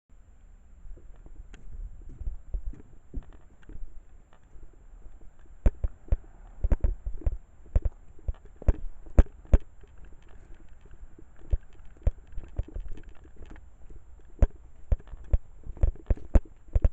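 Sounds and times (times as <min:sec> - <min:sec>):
wind rumbling on microphone: 0:00.7 - 0:16.9
sharp irregular knocks and thumps: 0:01.0 - 0:04.5, 0:05.1 - 0:16.9.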